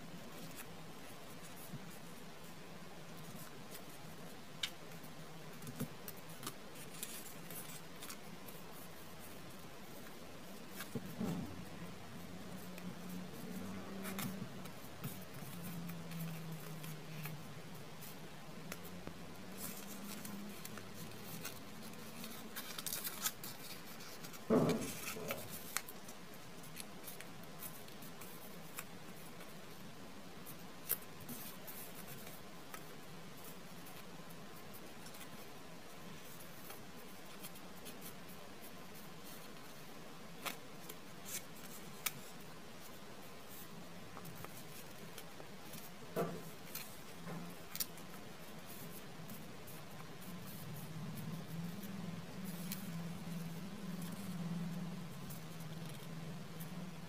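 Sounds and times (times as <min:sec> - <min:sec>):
paper folding and crinkling: 0:00.2 - 0:57.0.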